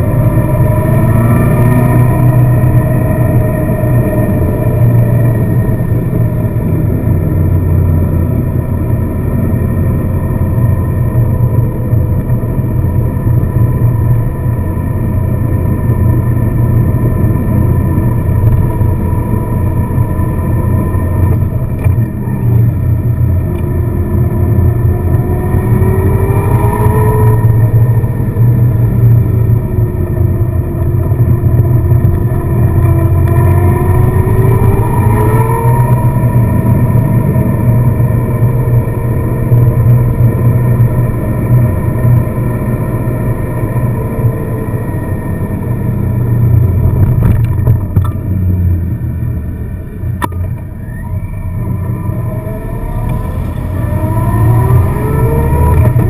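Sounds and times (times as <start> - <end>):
car engine: 0.0 - 56.0
road rumble: 0.0 - 56.0.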